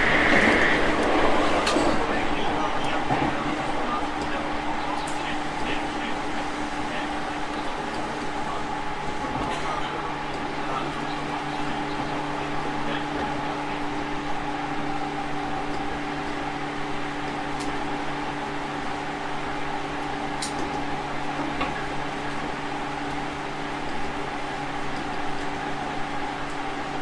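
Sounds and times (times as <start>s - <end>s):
electric train hum and whine: 0.0s - 27.0s.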